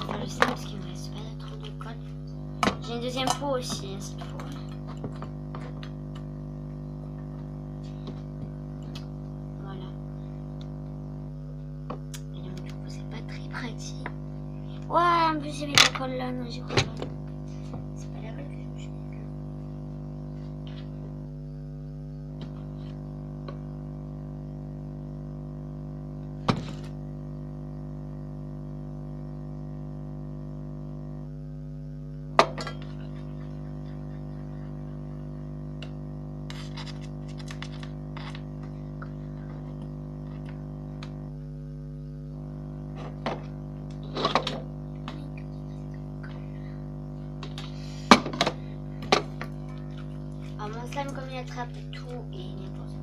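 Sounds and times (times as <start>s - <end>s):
steady droning hum: 0.0s - 53.0s.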